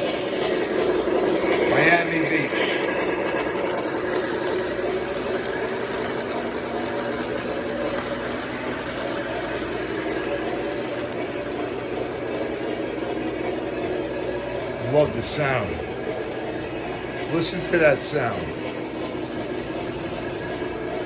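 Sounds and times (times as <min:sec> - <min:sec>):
model train whirring on track: 0:00.0 - 0:21.0.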